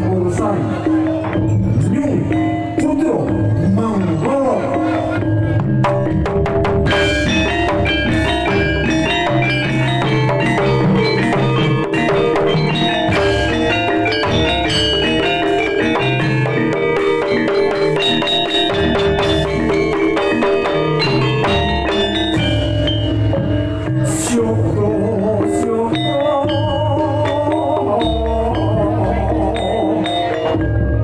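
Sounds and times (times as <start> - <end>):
pitched percussion melody: 0.0 - 31.0.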